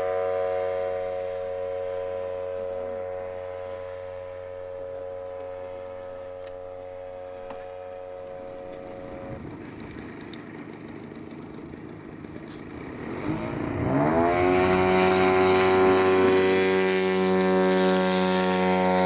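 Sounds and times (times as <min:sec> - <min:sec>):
model plane engine droning: 0:00.0 - 0:19.0.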